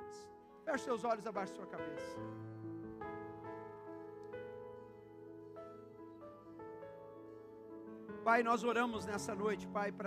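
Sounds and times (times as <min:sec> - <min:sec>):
soft keyboard chords: 0:00.0 - 0:10.0.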